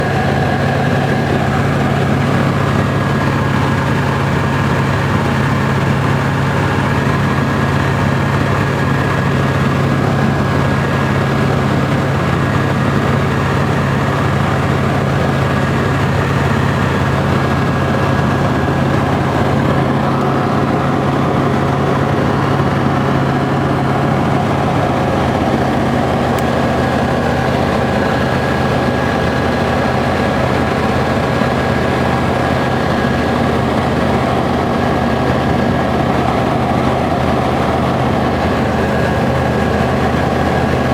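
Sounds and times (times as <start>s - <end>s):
propeller plane engine drone: 0.0s - 40.9s.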